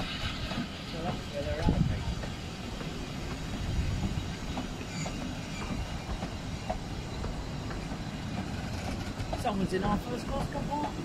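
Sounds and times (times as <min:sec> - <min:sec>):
railway carriages rumbling past: 0:00.0 - 0:11.0
wheels clicking over track: 0:00.0 - 0:11.0.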